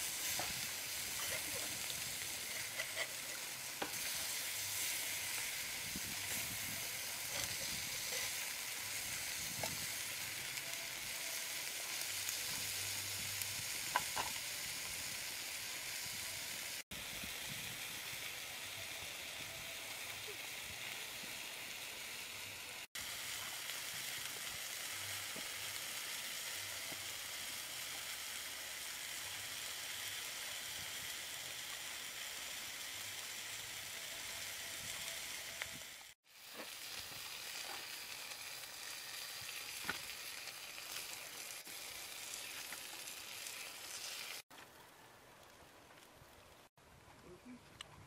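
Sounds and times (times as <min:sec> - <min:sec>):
frogs sizzling in frying: 0:00.0 - 0:46.8.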